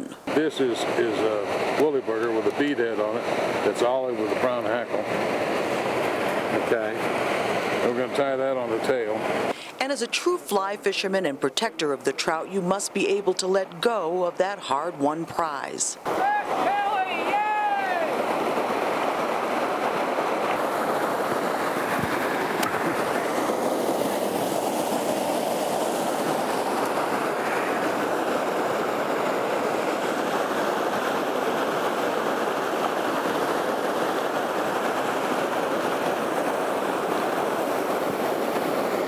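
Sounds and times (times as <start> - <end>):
creek pouring over waterfall: 0.0 - 10.8, 16.0 - 39.0.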